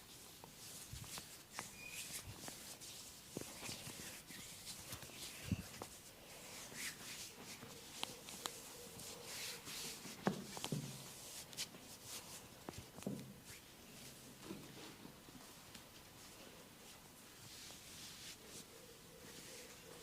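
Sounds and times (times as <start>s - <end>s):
hands rustling and scratching hair: 0.0s - 20.0s.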